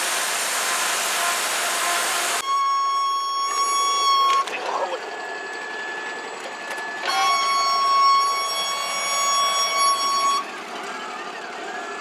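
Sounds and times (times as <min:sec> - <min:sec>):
band sawmill whine: 0:00.0 - 0:12.0.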